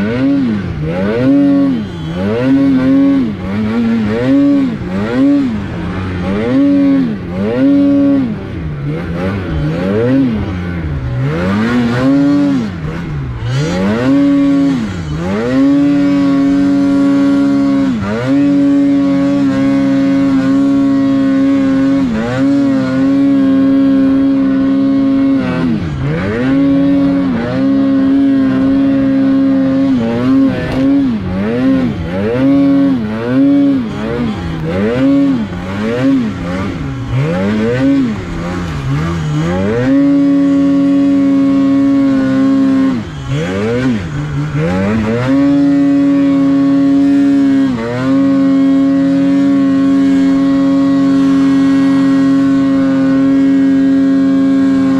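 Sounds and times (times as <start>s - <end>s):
snowmobile engine revving: 0.0s - 54.9s.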